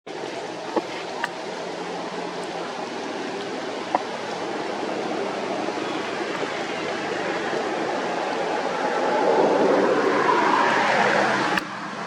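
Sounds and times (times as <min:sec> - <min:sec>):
heavy rain falling: 0:00.1 - 0:12.0.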